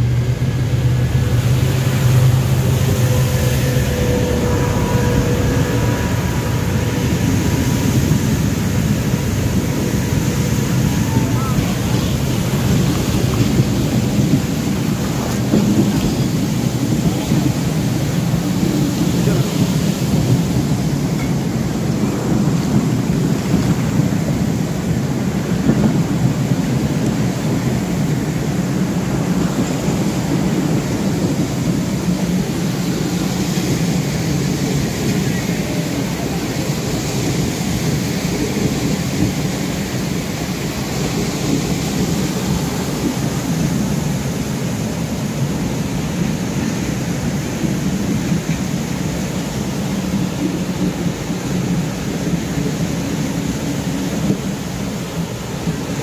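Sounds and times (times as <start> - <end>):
train rumbling: 0.0 - 56.0
train splashing through water: 0.0 - 56.0.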